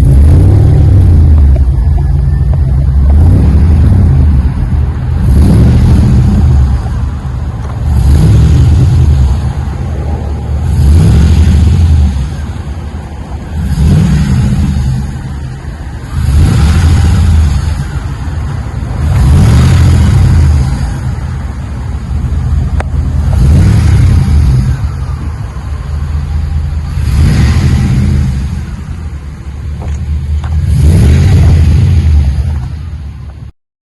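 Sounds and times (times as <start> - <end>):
car engine revving: 0.0 - 33.5.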